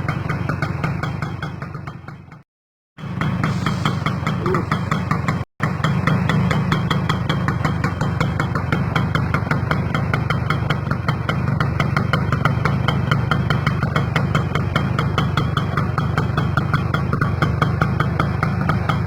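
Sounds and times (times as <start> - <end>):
motorcycle engine idling: 0.0 - 2.4, 3.0 - 19.0.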